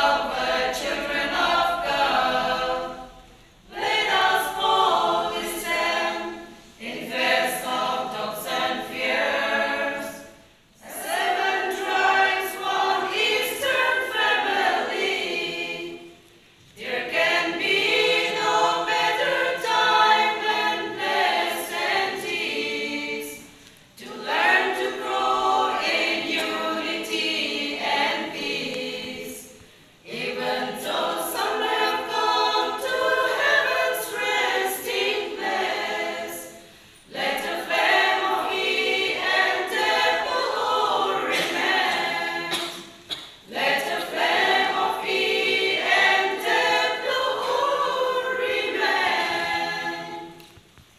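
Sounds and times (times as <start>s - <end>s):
women's choir singing a cappella: 0.0s - 50.7s.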